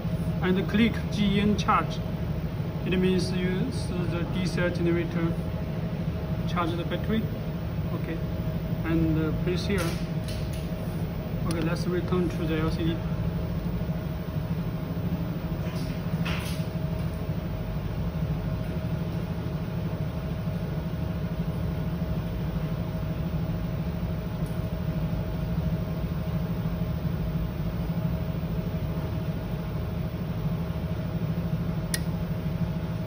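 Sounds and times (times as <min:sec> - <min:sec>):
diesel generator running: 0:00.0 - 0:33.0.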